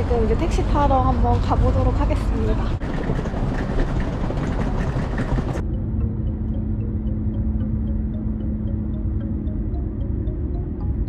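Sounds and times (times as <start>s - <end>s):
low steady hum: 0.0s - 11.0s
road traffic: 0.0s - 11.0s.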